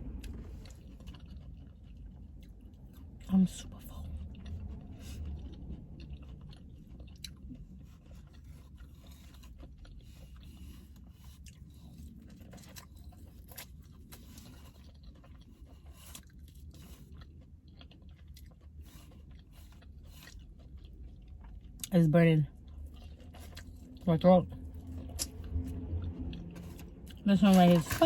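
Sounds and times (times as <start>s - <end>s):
close-up chewing food: 0.0s - 28.0s.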